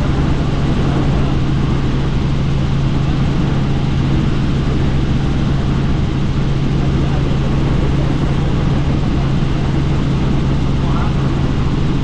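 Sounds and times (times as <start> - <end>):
helicopter engine drone: 0.0 - 12.0.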